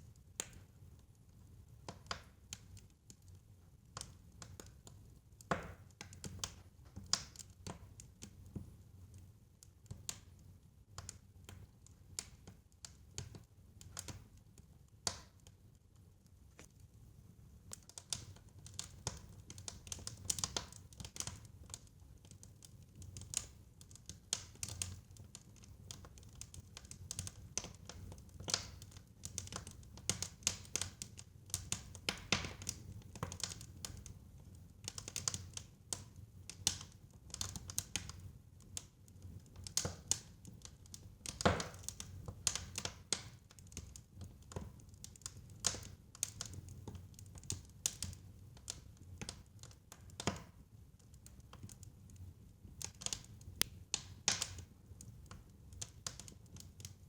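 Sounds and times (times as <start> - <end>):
fire crackling and popping: 1.8 - 57.0.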